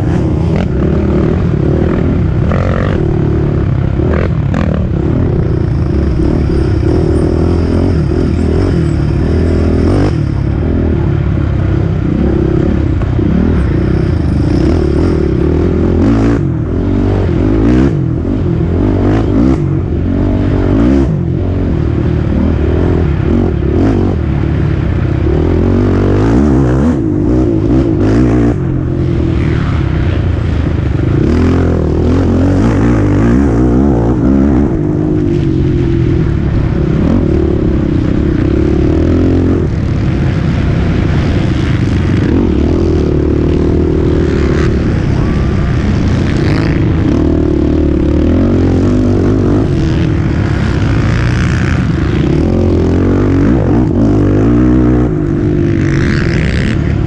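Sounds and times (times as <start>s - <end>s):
quad engine running hard: 0.0s - 57.0s.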